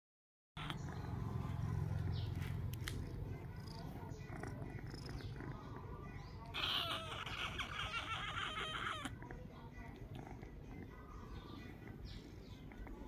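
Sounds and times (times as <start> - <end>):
cat purring: 0.6 - 13.0.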